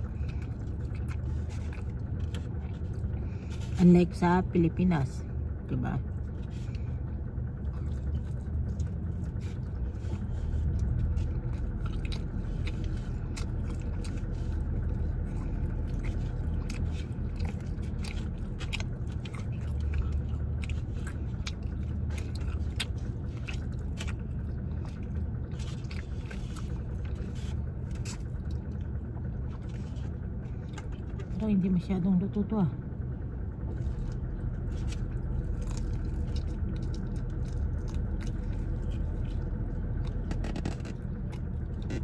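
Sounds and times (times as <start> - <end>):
person chewing food: 0.0 - 3.8, 5.4 - 31.4, 33.6 - 42.0
car interior rumble: 0.0 - 42.0.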